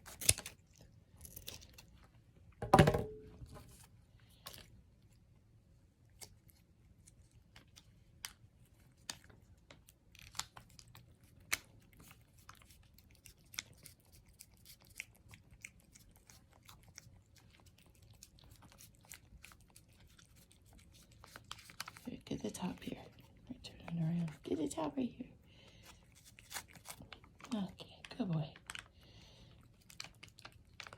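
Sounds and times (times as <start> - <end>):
cat licking and chewing: 0.0 - 2.6, 3.7 - 30.9.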